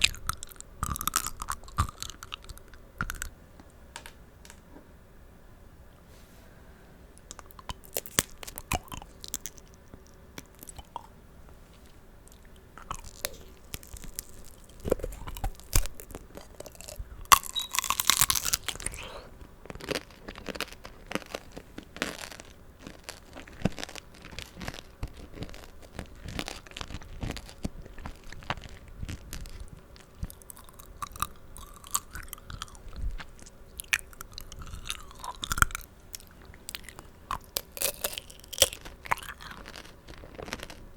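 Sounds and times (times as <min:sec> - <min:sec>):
crunchy candy chewing: 0:00.0 - 0:03.4, 0:07.2 - 0:11.1, 0:12.2 - 0:40.9.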